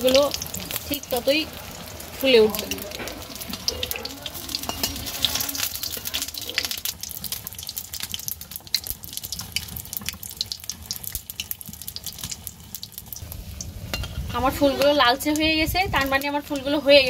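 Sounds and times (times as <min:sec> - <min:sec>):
battered food sizzling in hot oil: 0:00.0 - 0:17.0.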